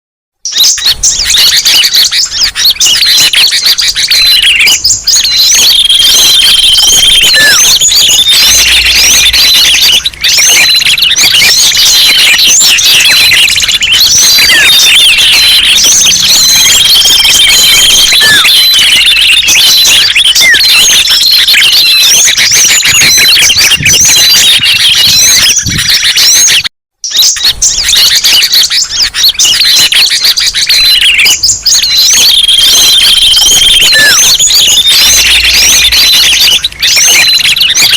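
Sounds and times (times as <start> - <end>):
chorus of small birds chirping: 0.4 - 37.9.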